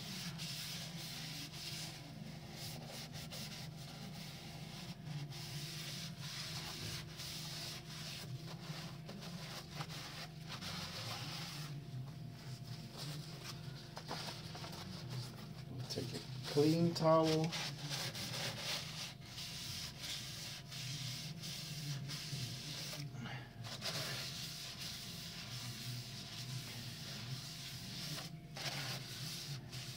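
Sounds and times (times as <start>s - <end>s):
paper towel scratchy wiping: 0.0s - 11.8s, 12.4s - 29.9s.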